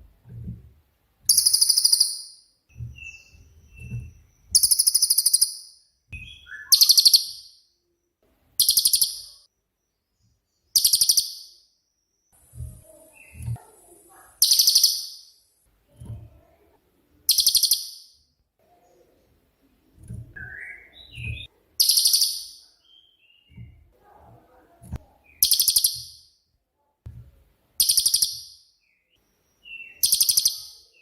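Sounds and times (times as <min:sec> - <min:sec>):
soft bird chirps: 0:01.2 - 0:31.0.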